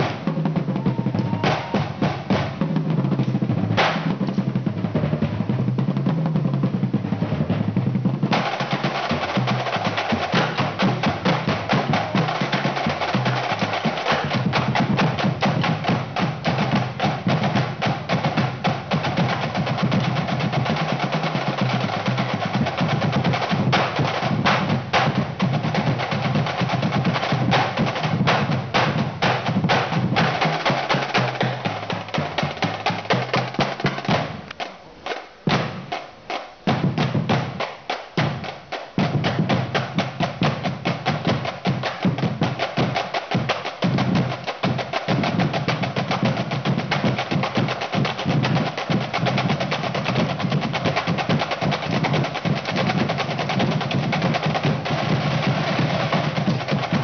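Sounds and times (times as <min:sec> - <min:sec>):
snare drums rolling: 0:00.0 - 0:57.0.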